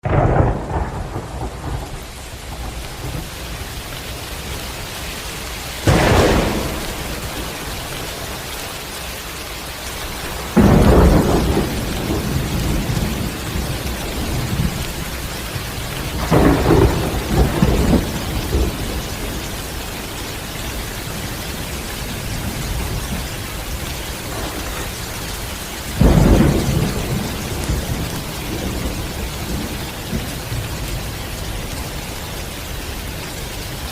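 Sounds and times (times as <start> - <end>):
heavy rain: 0.0 - 33.9
thunder claps and rumbles: 0.0 - 33.9.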